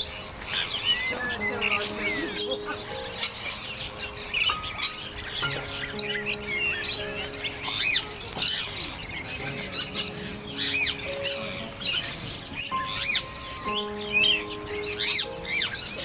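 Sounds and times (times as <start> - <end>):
background music of held notes: 0.0 - 16.0
birds chirping: 0.0 - 16.0.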